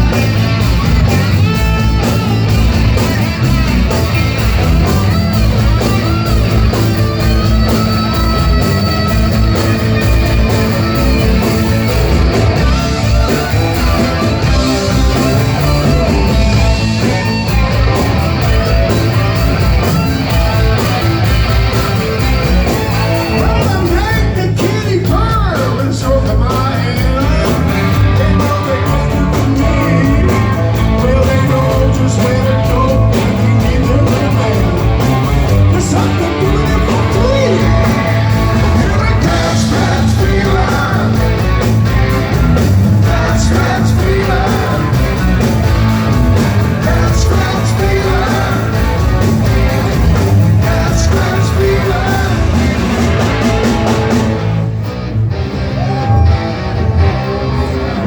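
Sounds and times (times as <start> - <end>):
live hard rock band: 0.0 - 58.0
rock vocals: 0.0 - 58.0.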